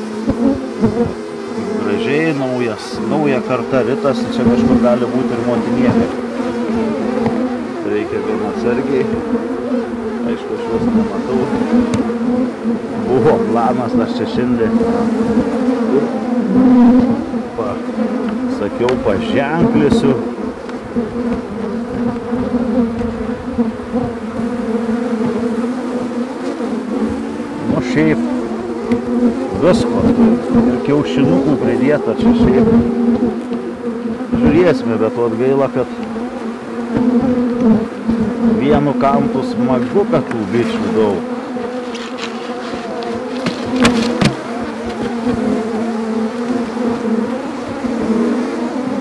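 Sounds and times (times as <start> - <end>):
bees buzzing: 0.0 - 49.0.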